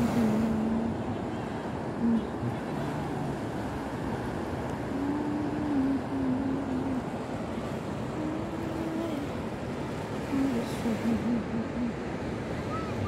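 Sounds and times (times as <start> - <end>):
low drawn-out hum: 0.0 - 13.0
ocean surf on beach: 0.0 - 13.0.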